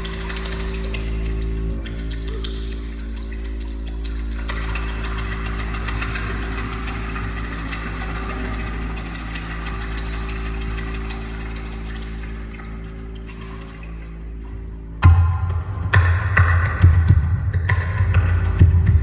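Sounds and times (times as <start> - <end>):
heavy low drone: 0.0 - 19.0.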